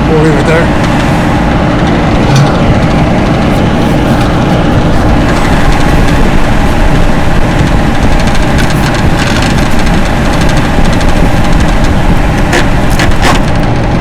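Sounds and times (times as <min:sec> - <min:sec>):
exhaust fan rumbling: 0:00.0 - 0:14.0.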